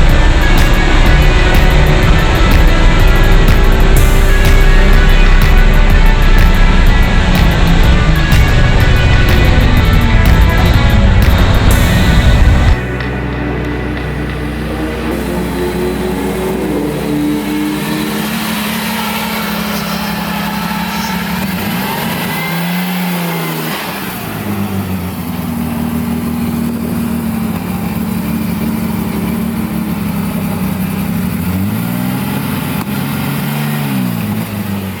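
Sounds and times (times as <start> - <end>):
car engine revving hard: 0.0 - 35.0.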